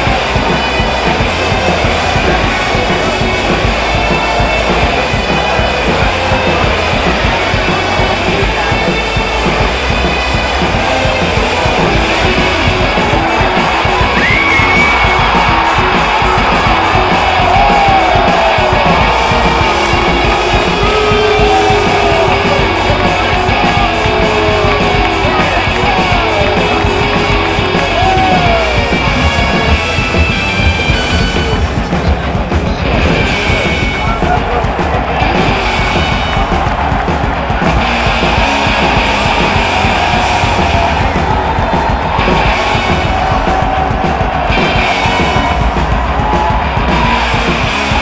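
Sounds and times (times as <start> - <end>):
rock music with guitar and singing: 0.0 - 48.0.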